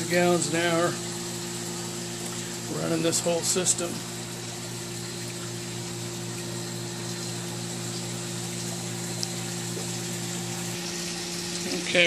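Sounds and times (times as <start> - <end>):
pressure pump humming: 0.0 - 12.0
water pouring and splashing: 0.0 - 12.0.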